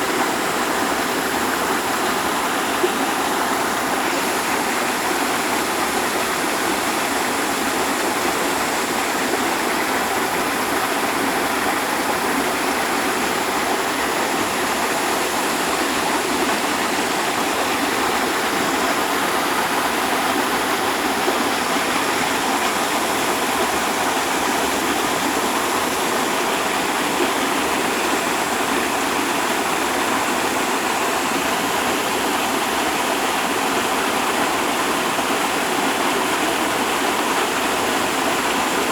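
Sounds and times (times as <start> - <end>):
waterfall: 0.0 - 38.9.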